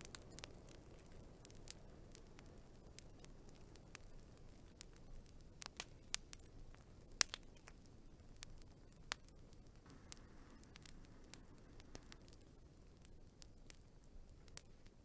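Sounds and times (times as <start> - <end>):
low rumble of burning: 0.0 - 15.0
wood fire crackling: 0.0 - 15.0.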